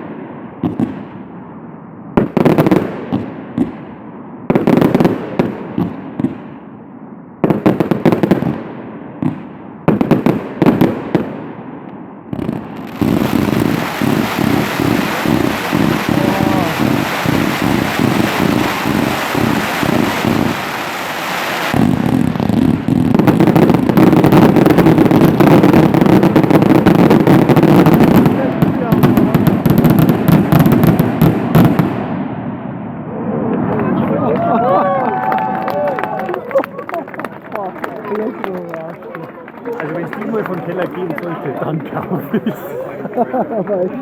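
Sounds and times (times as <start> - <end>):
fireworks bangs and crackle: 0.0 - 44.0.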